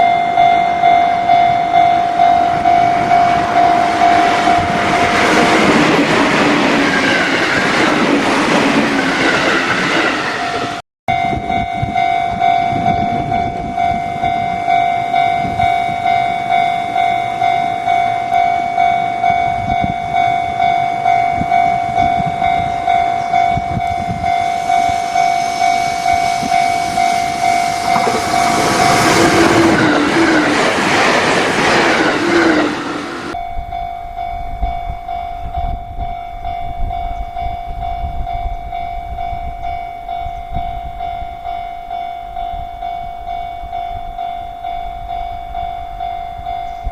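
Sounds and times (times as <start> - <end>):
level-crossing warning bell: 0.0 - 46.9
passing train rumble and clatter: 0.0 - 46.9.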